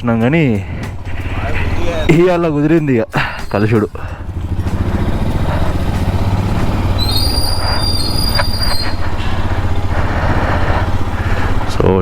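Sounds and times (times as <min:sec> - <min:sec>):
motorcycle engine thumping: 0:00.0 - 0:12.0
high-pitched squeal: 0:01.3 - 0:11.0.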